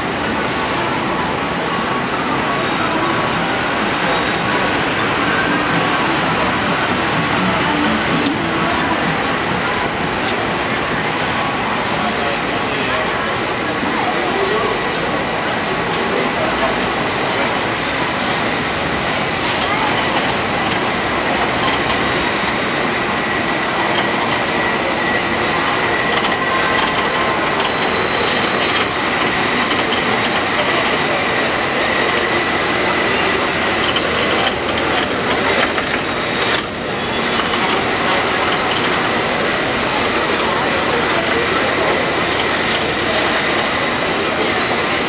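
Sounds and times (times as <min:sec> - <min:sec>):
cable cars rolling on rails: 0:00.0 - 0:45.0
wet street noise: 0:00.0 - 0:45.0.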